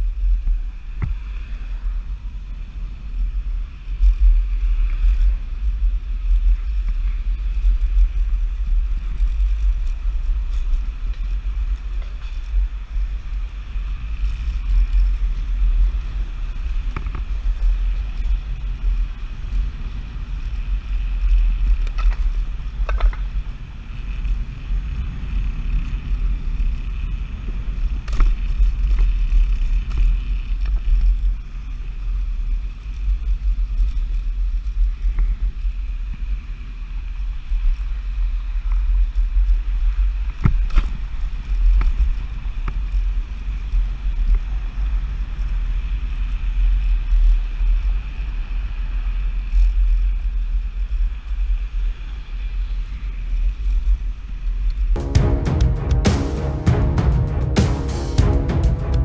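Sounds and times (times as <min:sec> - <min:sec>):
low rumble of wind and road: 0:00.0 - 0:47.5.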